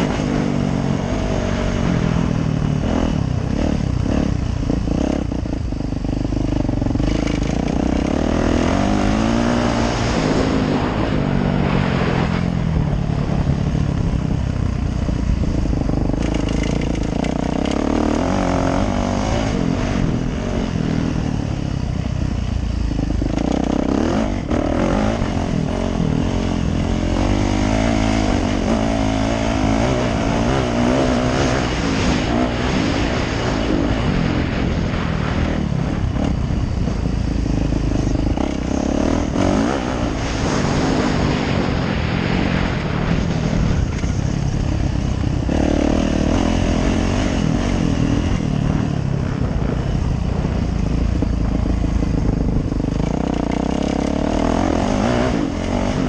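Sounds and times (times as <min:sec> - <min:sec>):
dirt bike engine revving: 0:00.0 - 0:56.0
wind rushing over microphone: 0:00.0 - 0:56.0.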